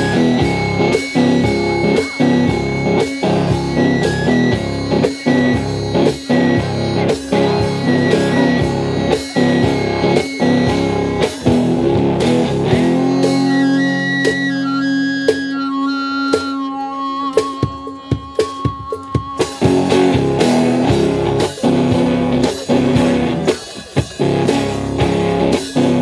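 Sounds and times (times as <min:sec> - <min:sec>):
guitar music in steady rhythm: 0:00.0 - 0:26.0.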